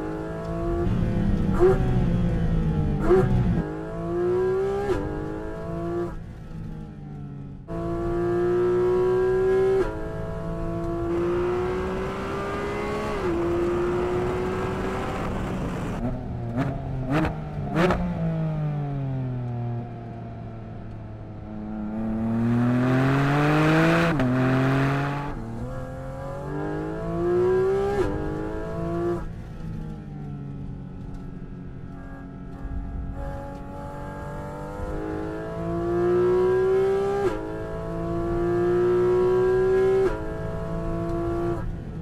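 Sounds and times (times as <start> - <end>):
car engine revving through upshifts: 0.0 - 6.2, 7.7 - 19.2, 21.5 - 29.4, 33.2 - 41.9.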